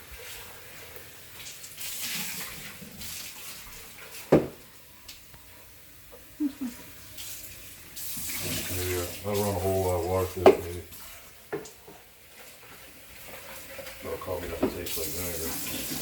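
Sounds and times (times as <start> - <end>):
water running and splashing: 0.0 - 4.9, 6.4 - 16.0.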